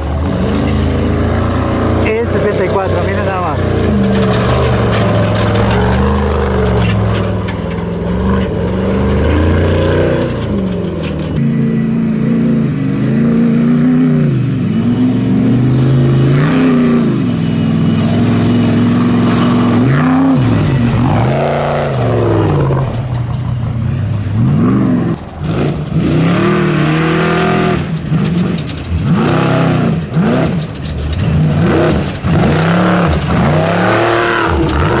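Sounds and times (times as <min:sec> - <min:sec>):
race truck engine revving: 0:00.0 - 0:35.0.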